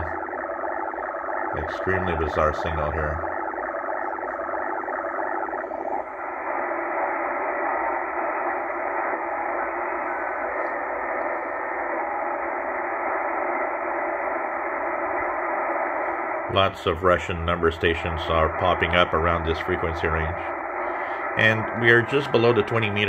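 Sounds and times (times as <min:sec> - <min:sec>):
shortwave radio static: 0:00.0 - 0:23.0.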